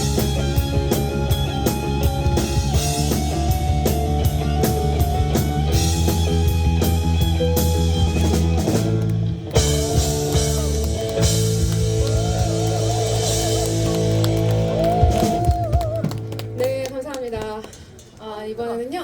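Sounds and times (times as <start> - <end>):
drum kit beat: 0.0 - 16.6
bass guitar: 0.0 - 16.8
electric guitar: 0.0 - 16.8.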